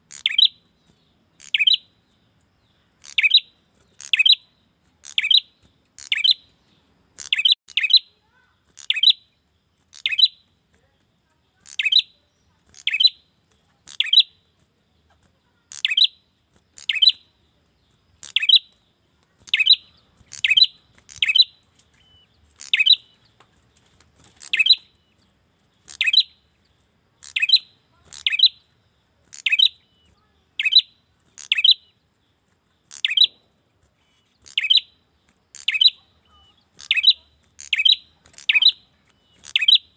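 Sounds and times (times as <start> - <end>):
bird high-pitched calls: 0.0 - 10.5, 11.5 - 32.1, 32.8 - 39.9.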